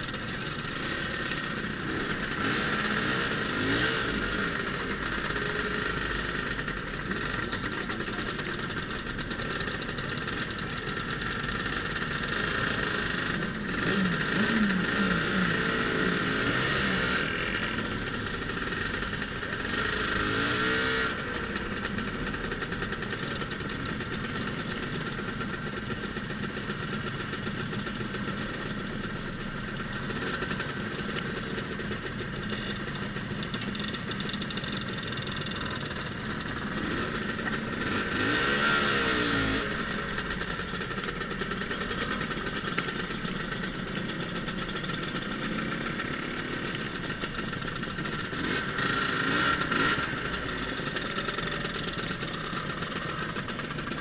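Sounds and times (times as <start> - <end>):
scooter engines revving: 0.0 - 54.0.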